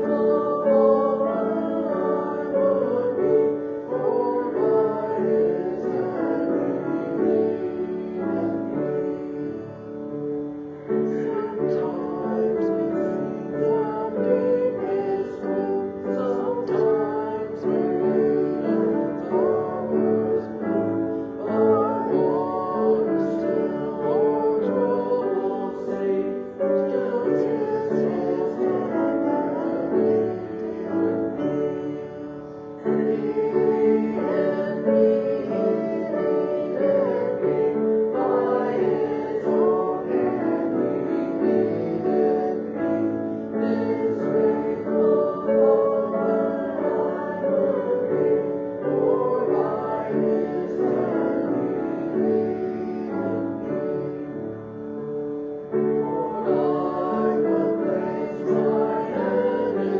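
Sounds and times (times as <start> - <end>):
piano accompaniment: 0.0 - 59.9.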